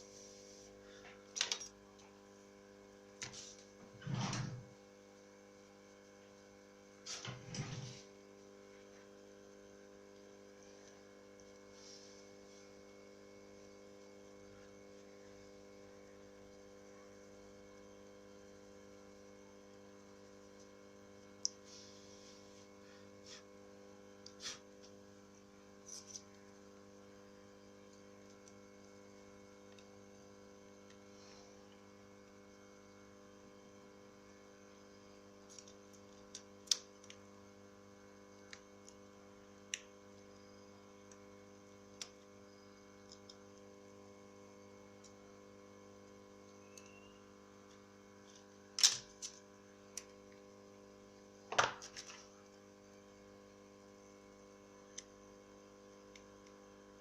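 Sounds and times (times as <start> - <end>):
faint electrical hum: 0.0 - 57.0.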